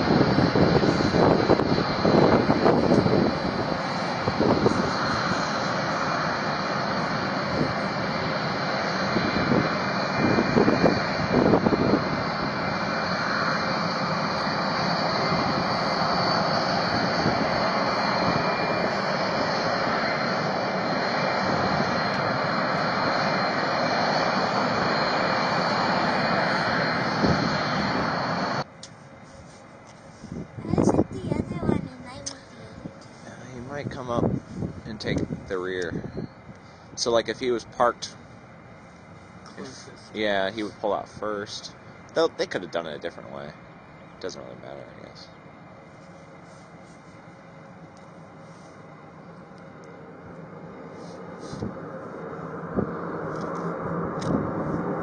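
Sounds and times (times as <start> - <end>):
jet engines with high whine: 0.0 - 55.0.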